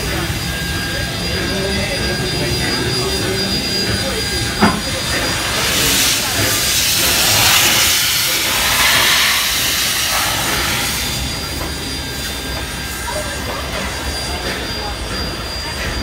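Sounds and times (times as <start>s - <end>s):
steam hissing from locomotive: 0.0s - 16.0s.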